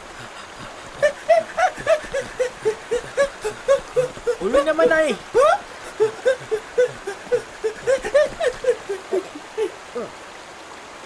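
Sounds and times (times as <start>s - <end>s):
cartoon voice giggling: 0.5s - 10.1s.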